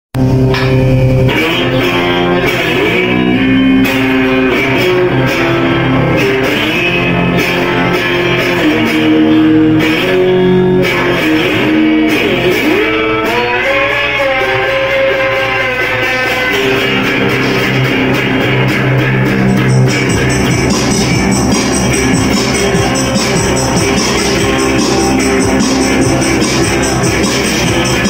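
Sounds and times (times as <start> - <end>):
electric guitar bent notes: 0.2 - 28.0.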